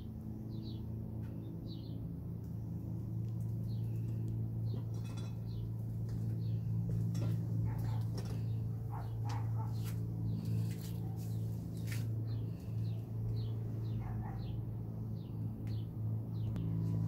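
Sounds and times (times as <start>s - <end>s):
steady low hum: 0.0s - 17.0s
small birds chirping: 0.4s - 17.0s.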